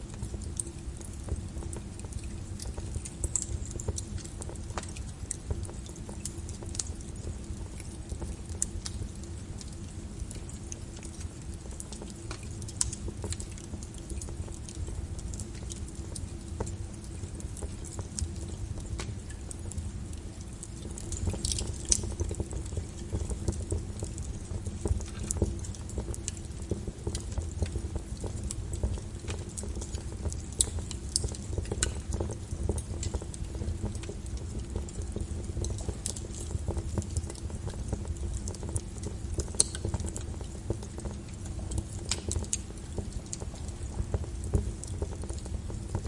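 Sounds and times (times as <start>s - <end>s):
low rumble of burning: 0.0s - 46.0s
wood fire crackling: 0.0s - 46.0s.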